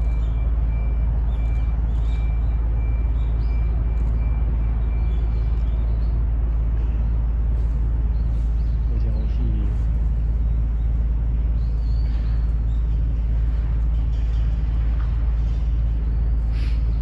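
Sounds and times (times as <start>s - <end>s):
deep background rumble: 0.0s - 17.0s.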